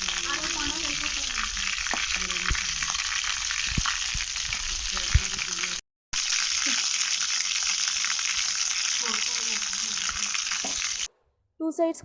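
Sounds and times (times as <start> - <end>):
chicken frying in oil: 0.0 - 11.1.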